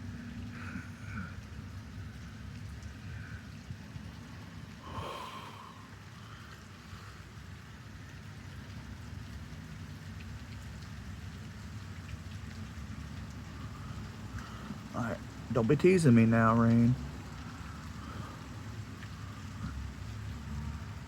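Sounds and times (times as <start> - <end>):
light rain falling: 0.0 - 21.0
low steady rumble: 0.0 - 21.0.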